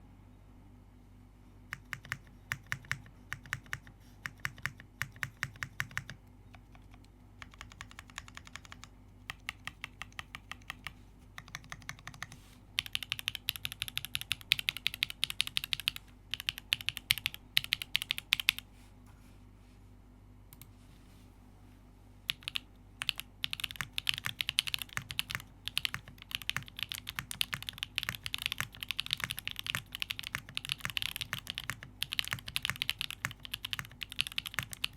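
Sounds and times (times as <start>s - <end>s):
mechanical keyboard typing: 1.7s - 18.6s, 22.3s - 34.9s.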